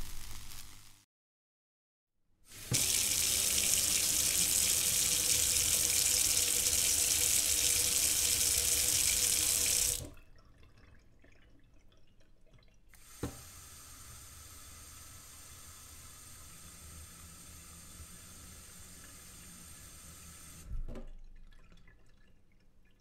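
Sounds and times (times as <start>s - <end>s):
faucet running into steel sink: 2.5s - 22.4s.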